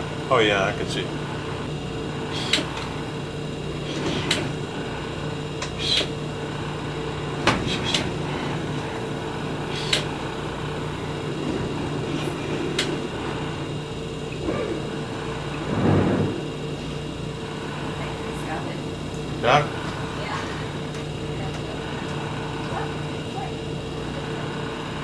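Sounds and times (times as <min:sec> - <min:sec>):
boat engines droning: 0:00.0 - 0:25.0.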